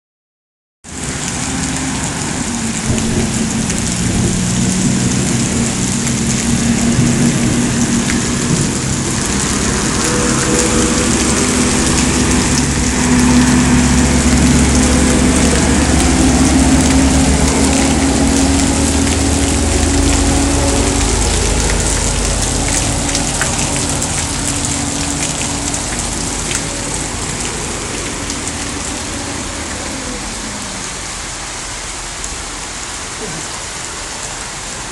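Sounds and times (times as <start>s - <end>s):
heavy rain pattering: 0.8s - 34.9s.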